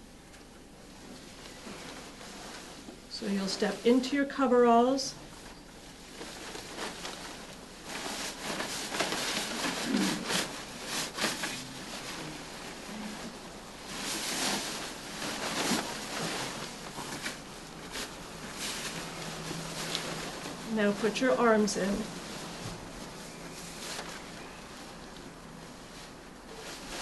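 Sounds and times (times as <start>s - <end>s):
coverall rustling and crinkling: 0.1s - 27.0s.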